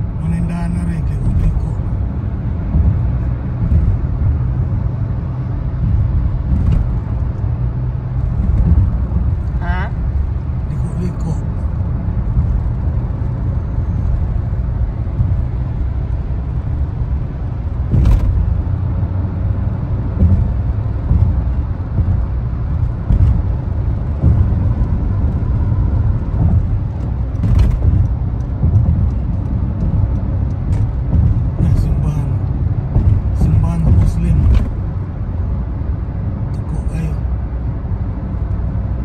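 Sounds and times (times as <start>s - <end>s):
car road and engine rumble: 0.0s - 39.0s.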